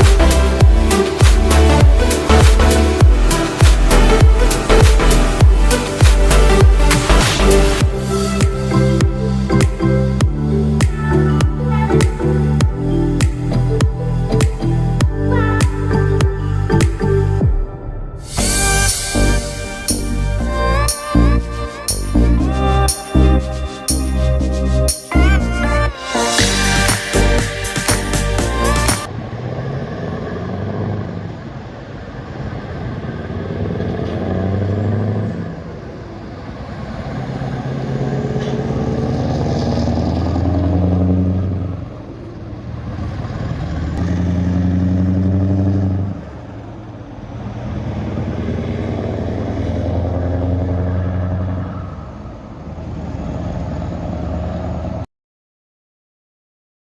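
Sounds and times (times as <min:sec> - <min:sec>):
diesel truck engine revving: 0:00.0 - 0:55.1.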